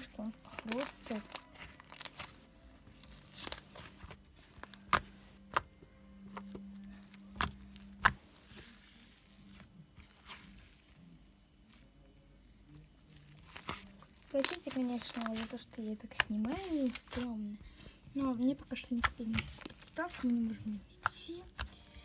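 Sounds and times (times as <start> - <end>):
slime crackling: 0.0 - 11.9, 12.6 - 17.6, 18.2 - 22.0.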